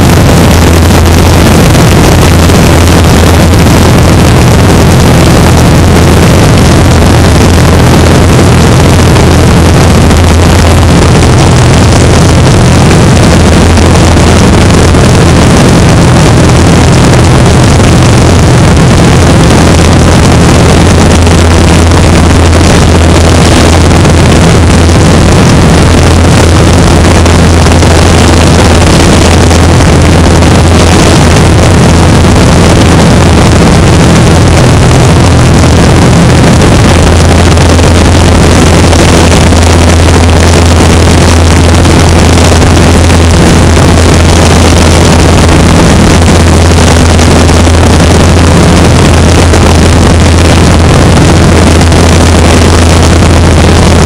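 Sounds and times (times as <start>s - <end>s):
propeller plane engine droning: 0.0s - 54.0s
wind noise on microphone: 0.0s - 54.0s.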